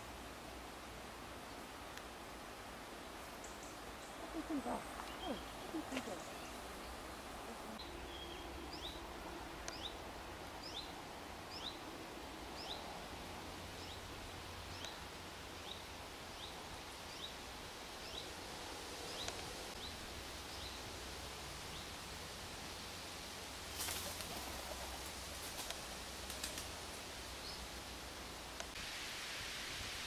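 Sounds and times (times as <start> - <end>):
outdoor hiss: 0.0 - 30.0.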